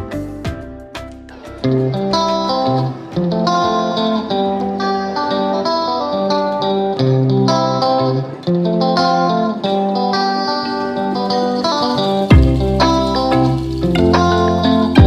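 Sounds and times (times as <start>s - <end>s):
plucked guitar tune: 0.0s - 15.0s.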